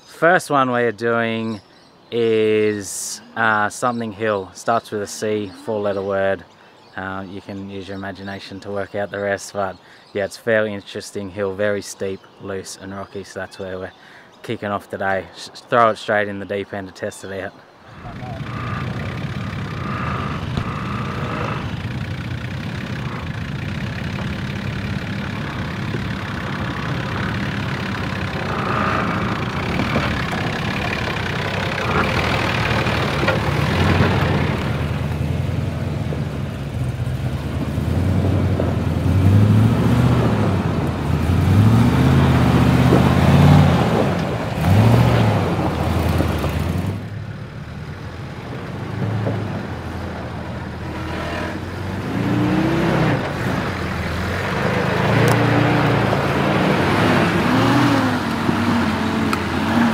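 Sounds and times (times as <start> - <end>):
off-road vehicle engines revving: 2.2 - 9.8, 17.9 - 59.9.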